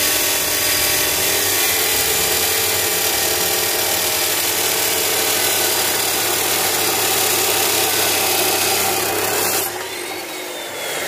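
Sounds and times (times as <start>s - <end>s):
cut-off saw grinding steel: 0.0s - 11.0s
saw motor whine: 0.0s - 11.0s.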